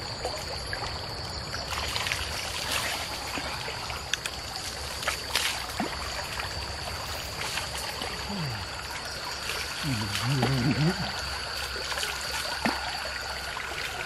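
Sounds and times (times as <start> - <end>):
small water splashes: 0.0 - 14.0
stream trickling: 0.0 - 14.0.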